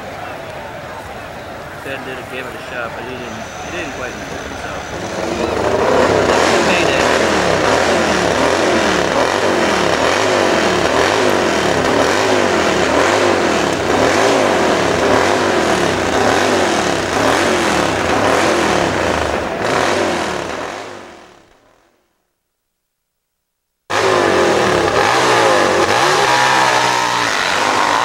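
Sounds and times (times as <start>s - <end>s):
motorcycle engine revving hard: 1.8s - 21.8s, 23.9s - 28.0s.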